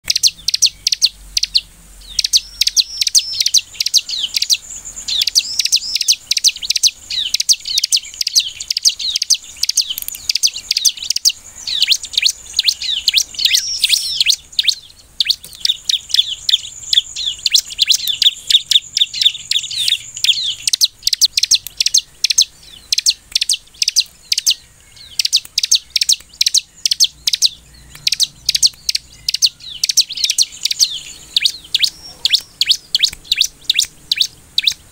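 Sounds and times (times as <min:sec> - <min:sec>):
bird singing high chirps: 0:00.0 - 0:34.9.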